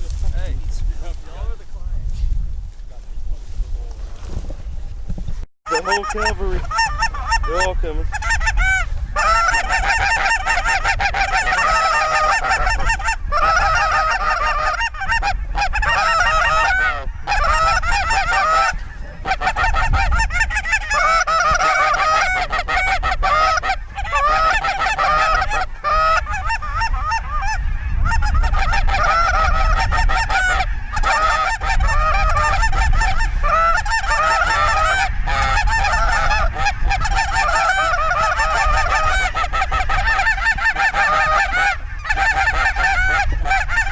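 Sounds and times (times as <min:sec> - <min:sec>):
geese honking: 0:05.7 - 0:43.9.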